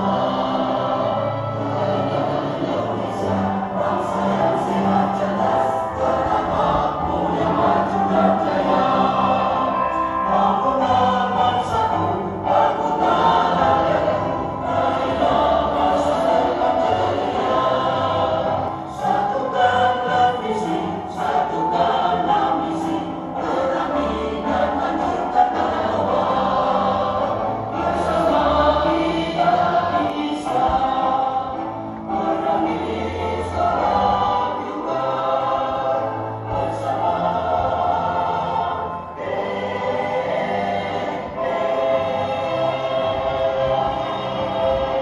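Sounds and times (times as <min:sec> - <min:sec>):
women's choir singing a march: 0:00.0 - 0:45.0.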